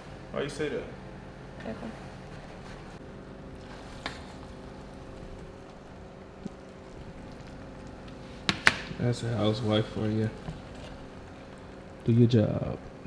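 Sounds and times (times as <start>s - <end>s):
background hum with low tones: 0.0s - 13.0s.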